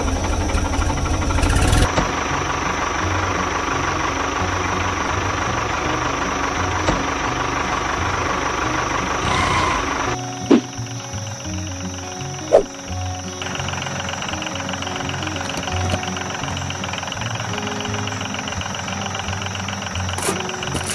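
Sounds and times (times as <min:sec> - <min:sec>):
tractor engine chugging: 0:00.0 - 0:20.9.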